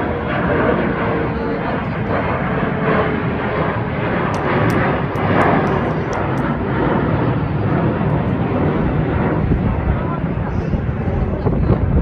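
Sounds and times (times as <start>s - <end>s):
jet engines running loud: 0.0s - 12.0s.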